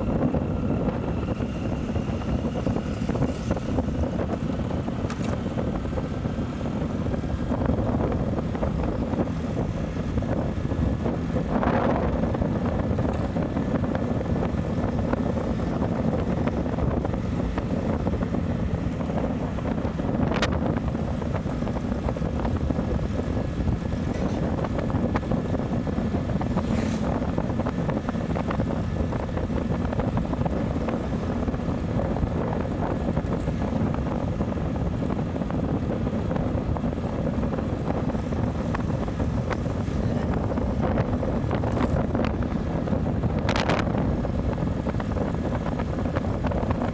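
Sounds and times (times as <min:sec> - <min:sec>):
motorcycle engine: 0:00.0 - 0:46.9
wind noise on microphone: 0:00.0 - 0:46.9.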